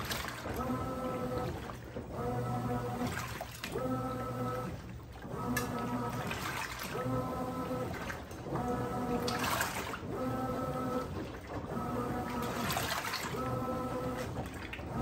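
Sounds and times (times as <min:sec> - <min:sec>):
washing machine motor humming: 0:00.0 - 0:15.0
water sloshing: 0:00.0 - 0:15.0.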